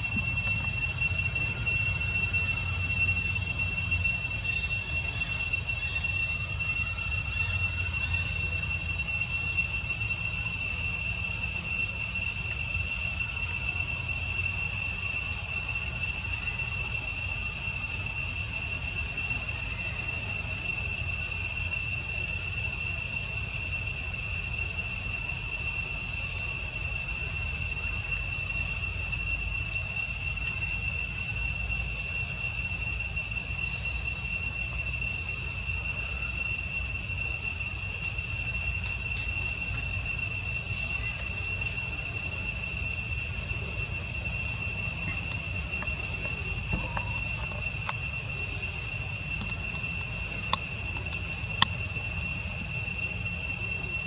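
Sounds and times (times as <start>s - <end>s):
insect chorus drone: 0.0s - 54.0s.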